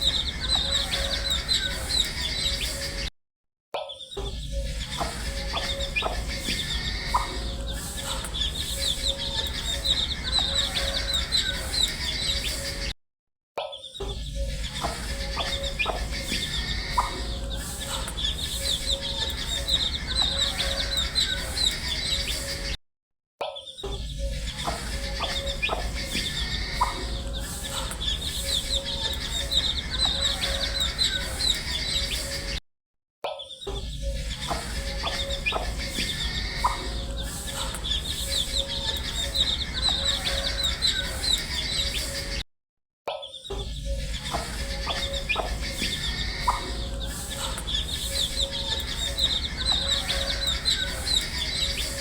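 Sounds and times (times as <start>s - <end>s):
baby chicks peeping: 0.0s - 3.1s, 4.2s - 12.9s, 14.0s - 22.7s, 24.1s - 32.6s, 33.6s - 42.4s, 43.4s - 52.0s.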